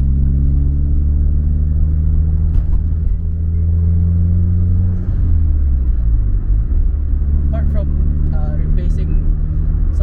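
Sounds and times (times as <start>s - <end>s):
car engine running with low drone: 0.0s - 10.0s.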